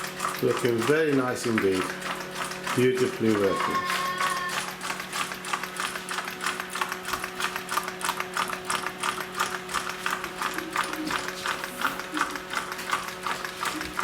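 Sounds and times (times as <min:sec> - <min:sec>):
wooden beam engine clicking: 0:00.0 - 0:14.0.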